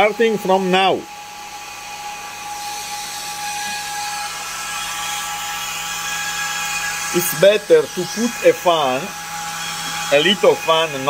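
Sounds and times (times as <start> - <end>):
cooling fan whirring: 0.0 - 11.0.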